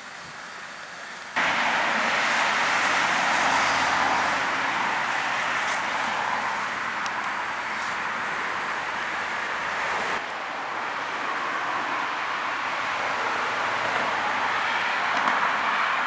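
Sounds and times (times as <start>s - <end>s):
cars driving past: 1.4s - 16.0s.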